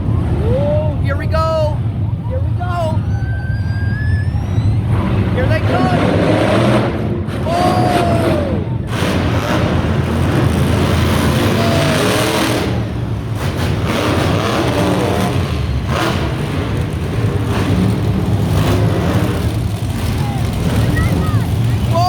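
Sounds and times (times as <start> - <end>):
monster truck engines revving: 0.0 - 22.0.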